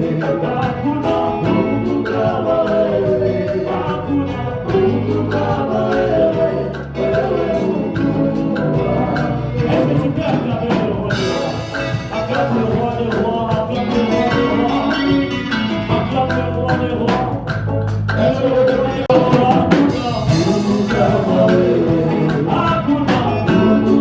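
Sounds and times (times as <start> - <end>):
church band playing: 0.0 - 24.0
drum kit beat: 0.0 - 24.0
voices singing: 0.0 - 24.0.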